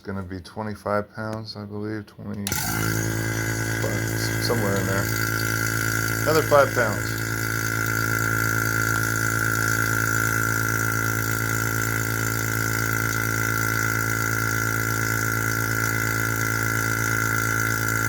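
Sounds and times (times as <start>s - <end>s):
vacuum pump humming: 2.5s - 18.0s.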